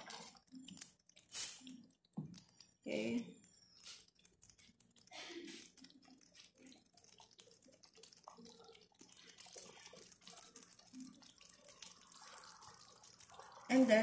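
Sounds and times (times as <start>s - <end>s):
stew bubbling: 0.0s - 14.0s
wooden spoon stirring: 0.0s - 14.0s.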